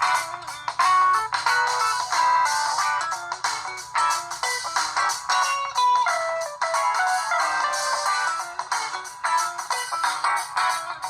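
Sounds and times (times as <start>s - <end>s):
phone ringtone melody: 0.0s - 4.7s, 5.3s - 10.7s.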